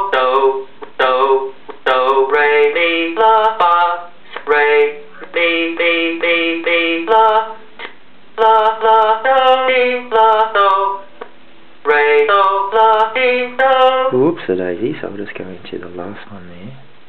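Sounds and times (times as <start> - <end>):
sequenced sung syllable melody: 0.0 - 7.7, 8.3 - 14.4.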